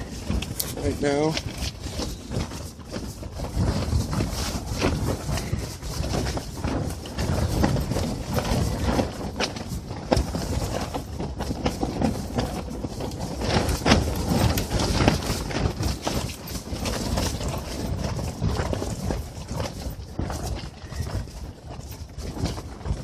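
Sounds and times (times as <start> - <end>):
fabric walls flapping: 0.0 - 23.0
wind rumble on microphone: 0.0 - 23.0.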